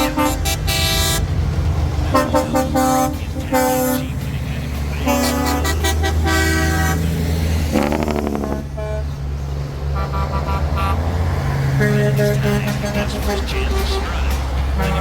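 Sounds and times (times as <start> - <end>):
truck engines droning: 0.0 - 15.0
truck horns blasting: 0.0 - 15.0.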